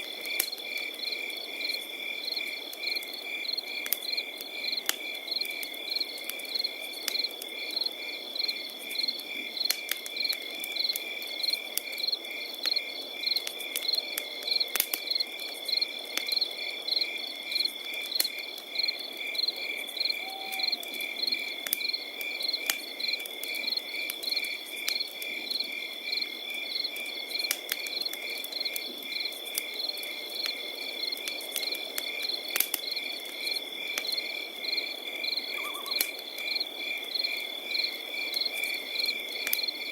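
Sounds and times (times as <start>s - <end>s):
campfire crackling and popping: 0.0s - 39.9s
crickets trilling and chirping: 0.0s - 39.9s.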